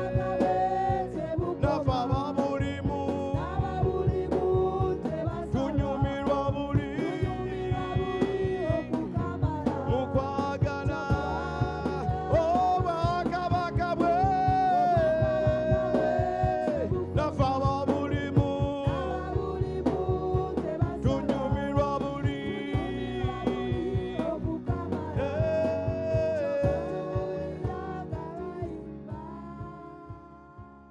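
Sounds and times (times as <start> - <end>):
song with singing over a beat: 0.0 - 30.9.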